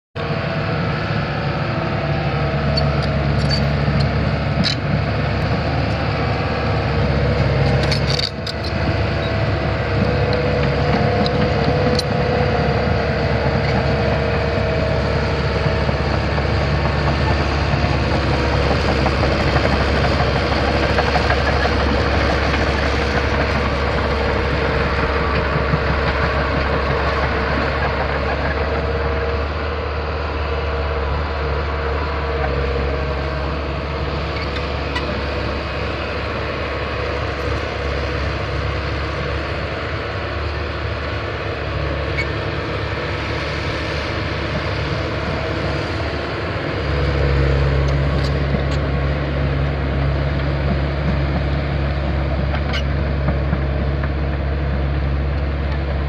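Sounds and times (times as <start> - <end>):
excavator diesel engine running: 0.2 - 56.0.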